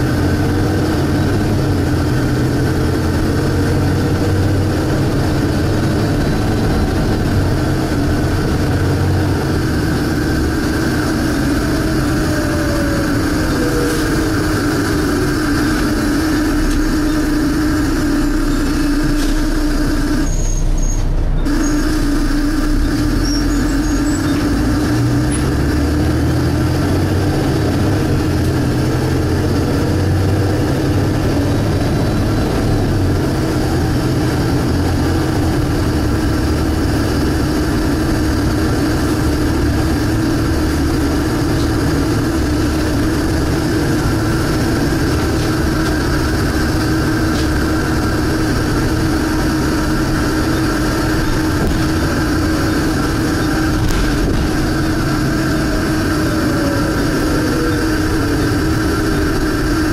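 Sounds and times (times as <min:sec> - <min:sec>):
bus engine running: 0:00.0 - 0:59.9
loud steady suction noise: 0:00.0 - 0:59.9.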